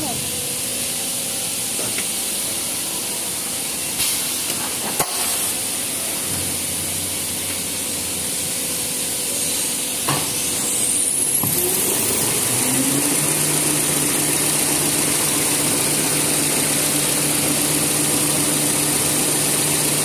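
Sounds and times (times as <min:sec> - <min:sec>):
machine hiss and hum: 0:00.0 - 0:20.0.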